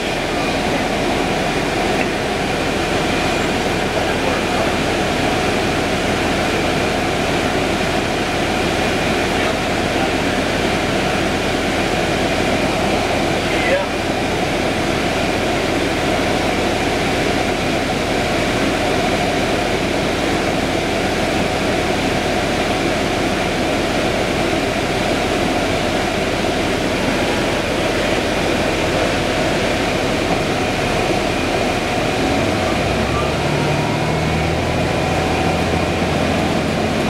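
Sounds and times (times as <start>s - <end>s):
bus engine and ventilation hum: 0.0s - 37.0s
thin steady whine: 0.0s - 37.0s.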